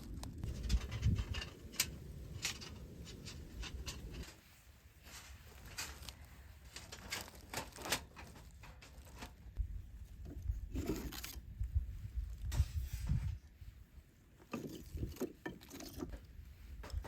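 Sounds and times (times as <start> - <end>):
rustling and scraping handling: 0.0 - 17.0.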